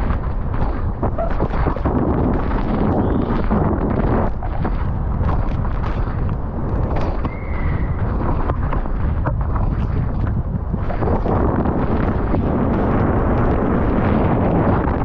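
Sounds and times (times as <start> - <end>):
bike knocking and rattling: 0.0 - 15.0
wind rushing over microphone: 0.0 - 15.0.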